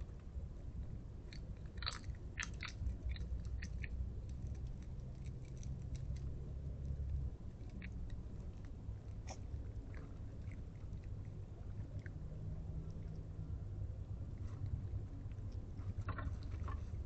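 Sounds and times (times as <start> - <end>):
low steady rumble: 0.0 - 17.0
small animal crunching food: 0.0 - 17.0.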